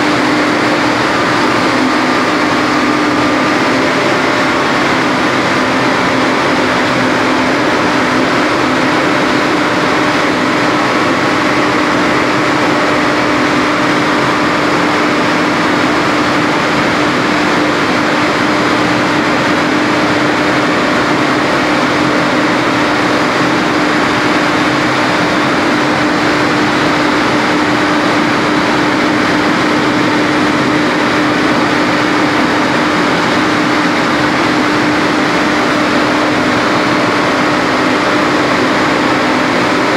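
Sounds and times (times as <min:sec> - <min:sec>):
turbine generator rushing hum: 0:00.0 - 0:39.9.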